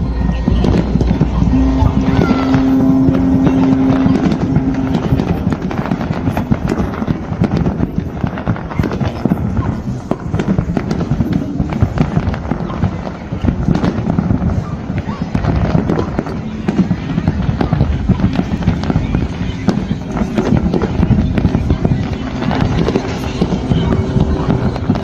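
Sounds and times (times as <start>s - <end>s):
crowd voices: 0.0s - 25.0s
fireworks cracks and bangs: 0.0s - 25.0s
long steady tone: 0.0s - 25.0s.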